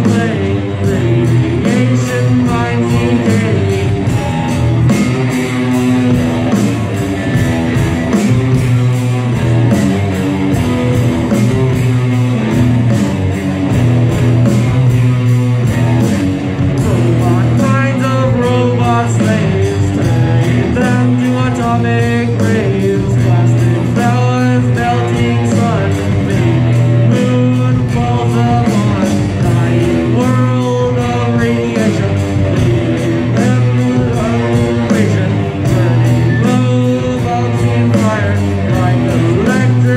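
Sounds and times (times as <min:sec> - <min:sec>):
person singing: 0:00.0 - 0:08.2, 0:15.6 - 0:39.9
rock band playing: 0:00.0 - 0:39.9.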